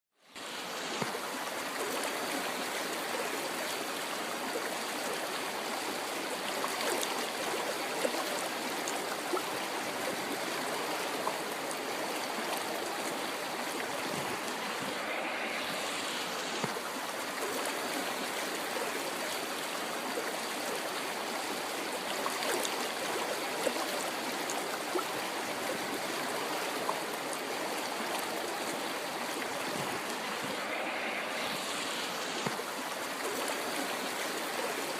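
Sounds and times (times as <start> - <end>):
river water flowing over rocks: 0.2 - 34.9.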